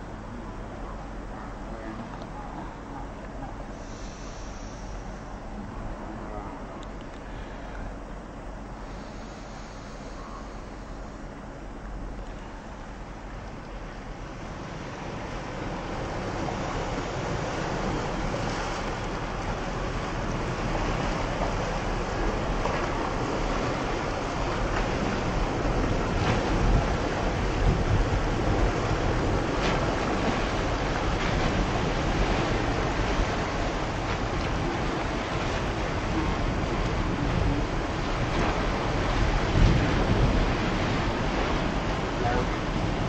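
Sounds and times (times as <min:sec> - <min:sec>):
ferry engines and propeller wash: 0:00.0 - 0:43.0
wind on microphone: 0:00.0 - 0:43.0.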